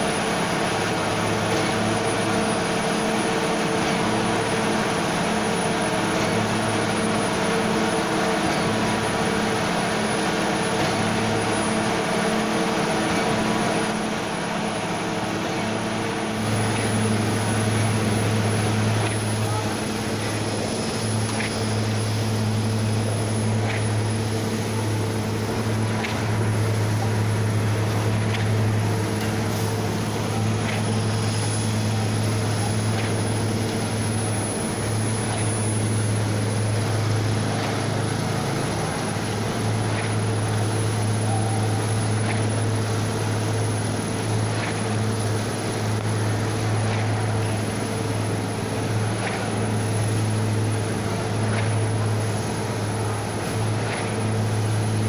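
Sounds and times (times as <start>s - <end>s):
small engine humming: 0.0s - 55.0s.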